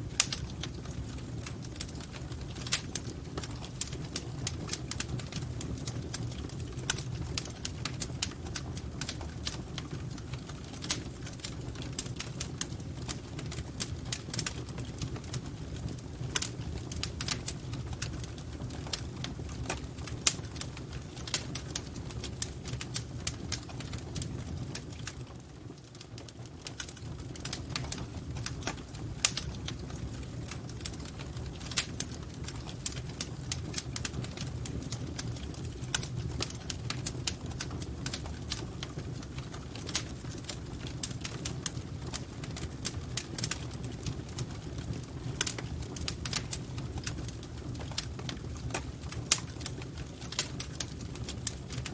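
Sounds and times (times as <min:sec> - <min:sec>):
fire crackling and popping: 0:00.0 - 0:51.9
low rumble of flames: 0:00.0 - 0:51.9.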